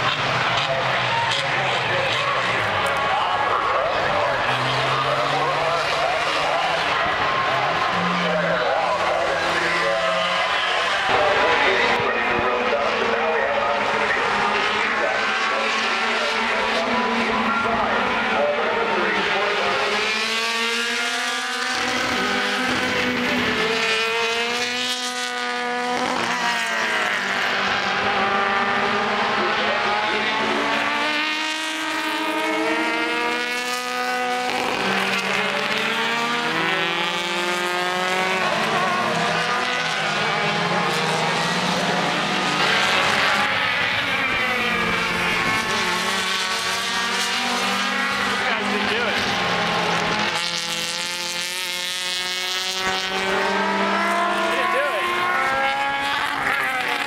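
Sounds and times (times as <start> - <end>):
racing car engines revving: 0.0 - 57.0.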